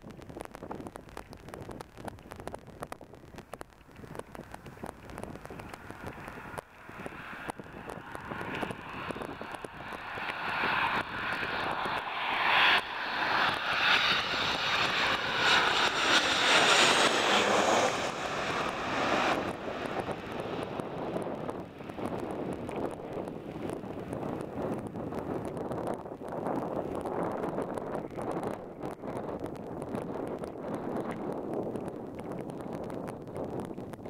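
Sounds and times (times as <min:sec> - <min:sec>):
jet passing overhead: 0:04.1 - 0:32.1.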